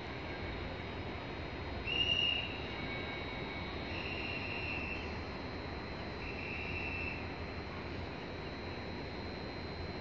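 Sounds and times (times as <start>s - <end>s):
station hum: 0.0s - 10.0s
high electronic warning beeps: 0.1s - 10.0s.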